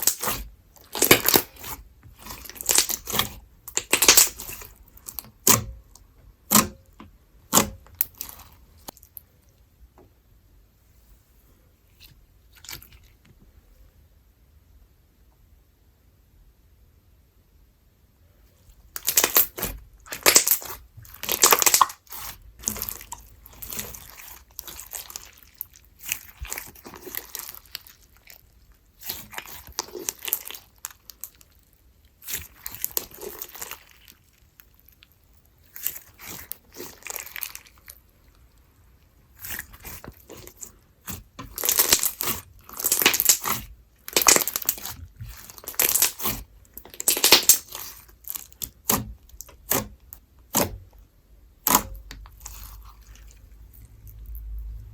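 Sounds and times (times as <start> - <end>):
hands squishing sticky slime: 0.0 - 6.8, 7.5 - 9.2, 18.8 - 54.9.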